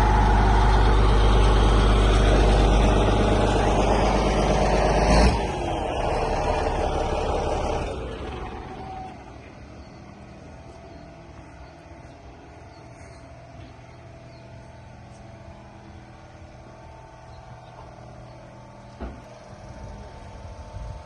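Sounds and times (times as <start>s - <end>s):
bulldozer diesel engine idling: 0.0s - 21.0s.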